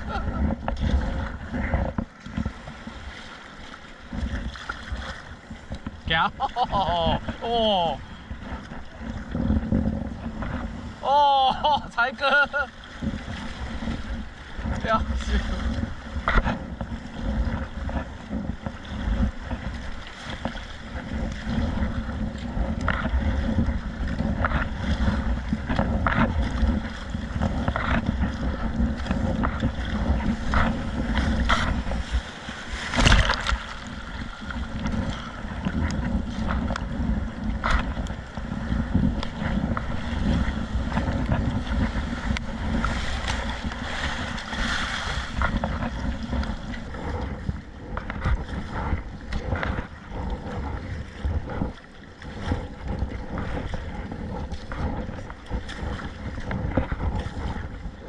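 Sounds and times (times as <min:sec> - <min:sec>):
waves splashing against kayak: 0:00.0 - 0:58.0
wind buffeting microphone: 0:00.0 - 0:58.0.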